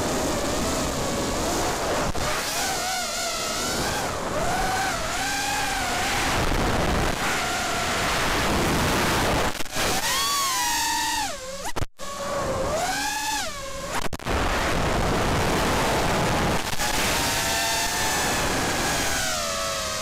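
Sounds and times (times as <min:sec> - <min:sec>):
drone propellers and wind rushing: 0:00.0 - 0:20.0
motor whine: 0:00.0 - 0:20.0.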